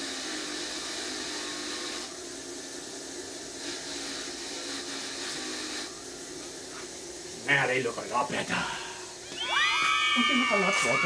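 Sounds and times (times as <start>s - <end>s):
wire wheel hissing against metal: 0.0s - 11.0s.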